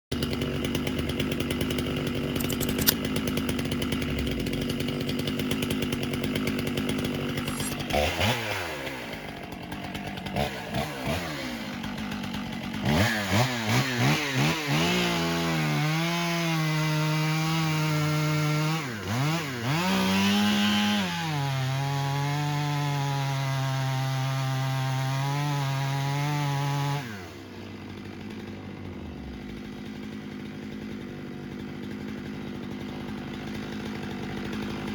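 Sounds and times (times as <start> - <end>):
chainsaw engine revving: 0.1 - 34.9.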